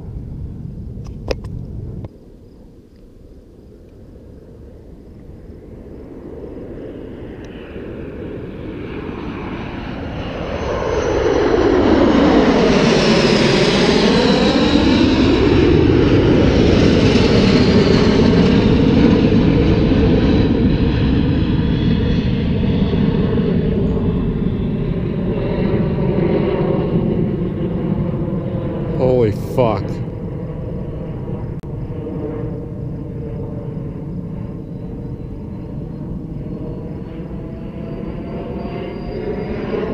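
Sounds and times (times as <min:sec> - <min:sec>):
jet aircraft flying past: 0:00.0 - 0:39.9.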